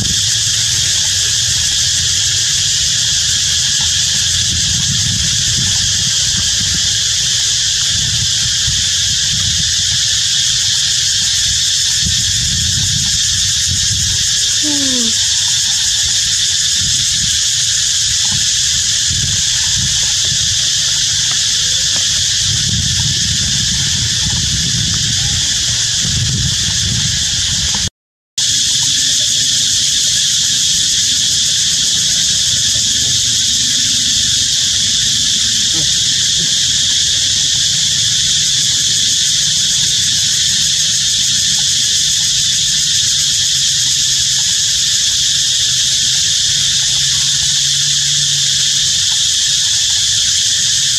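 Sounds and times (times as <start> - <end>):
high-pitched insect drone: 0.0 - 50.9.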